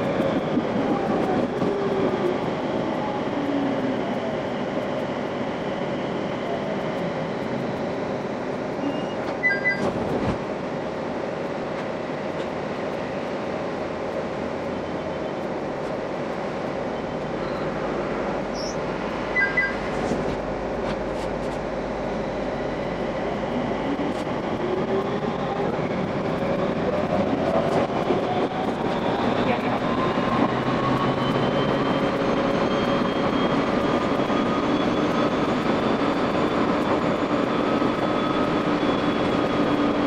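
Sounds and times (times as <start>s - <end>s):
train running noise: 0.0s - 40.0s.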